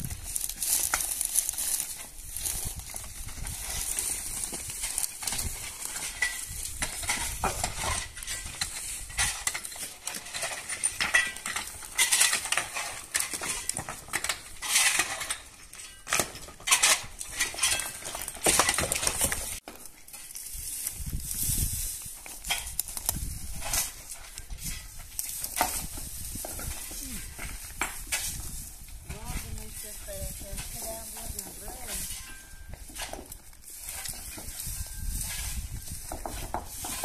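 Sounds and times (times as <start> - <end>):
tools scraping on stone rubble: 0.1 - 37.0.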